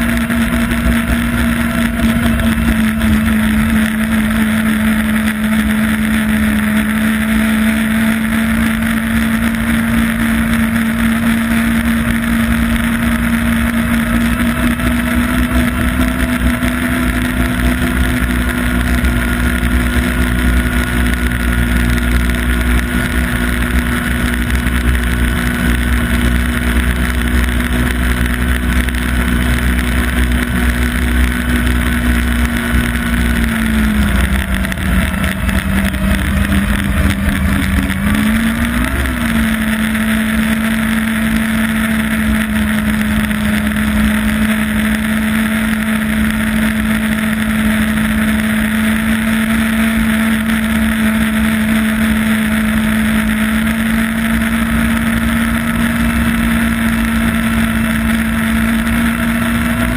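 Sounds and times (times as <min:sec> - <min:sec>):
snowmobile engine running: 0:00.0 - 0:59.9
snowmobile track noise: 0:00.0 - 0:59.9.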